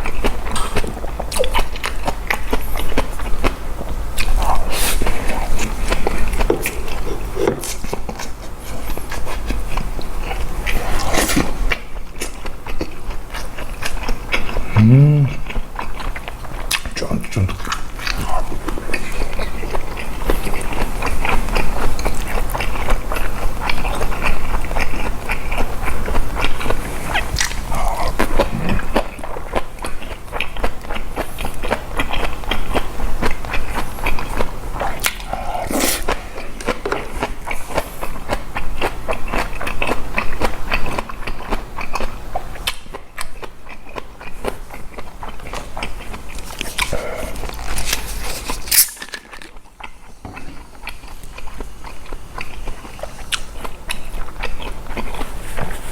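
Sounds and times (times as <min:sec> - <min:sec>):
crunchy biting and chewing: 0:00.0 - 0:55.9.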